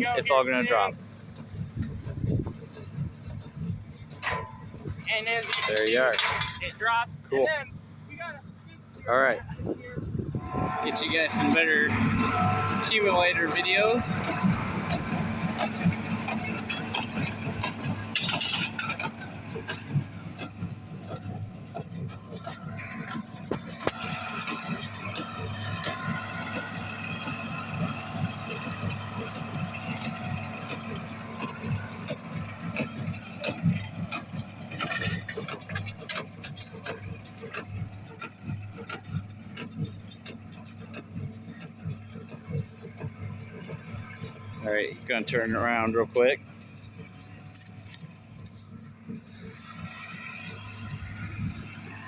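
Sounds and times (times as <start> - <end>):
tractor engine running: 0.0 - 52.0
metallic clinks and rattles: 0.2 - 9.0, 11.0 - 52.0.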